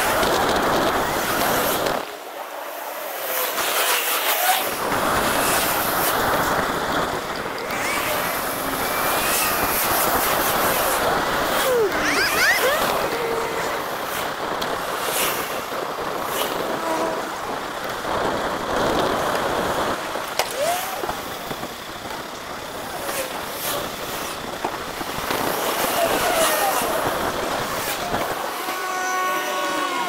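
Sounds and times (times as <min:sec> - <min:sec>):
vehicles passing: 0:00.0 - 0:24.3
traffic and wind noise: 0:00.0 - 0:30.0.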